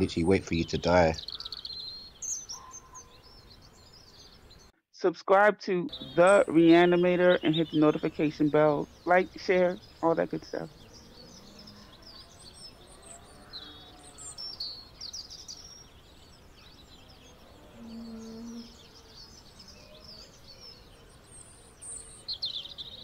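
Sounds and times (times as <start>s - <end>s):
small birds chirping and trilling: 0.0s - 4.7s, 5.8s - 23.0s.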